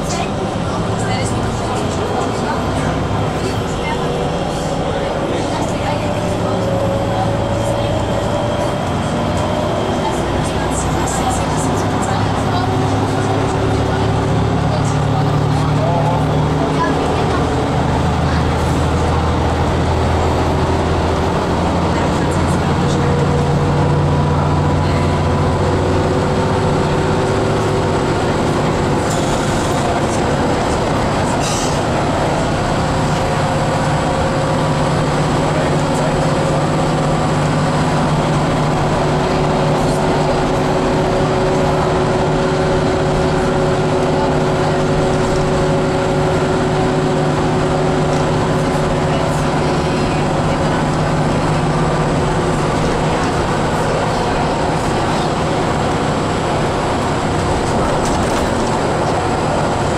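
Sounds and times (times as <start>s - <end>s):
bus engine and tyre drone: 0.0s - 59.9s.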